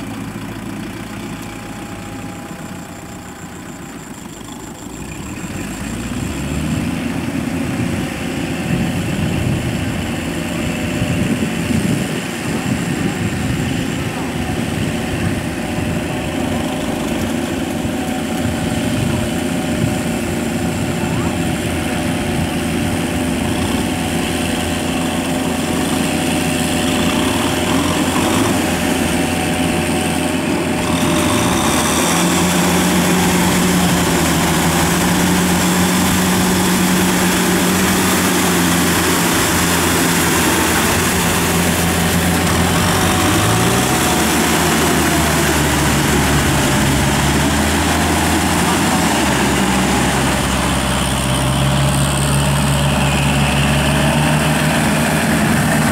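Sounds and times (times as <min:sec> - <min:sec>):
tractor diesel engine running: 0:00.0 - 0:55.9
wheels through flooded paddy: 0:00.0 - 0:55.9.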